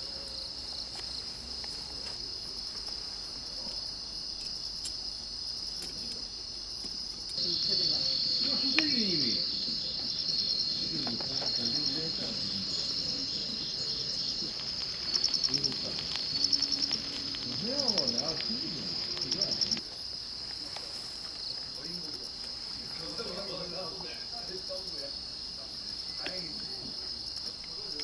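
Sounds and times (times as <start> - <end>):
crickets chirping: 0.0 - 28.0
faint distant voices: 0.0 - 28.0
pulsed cricket trills: 0.0 - 28.0.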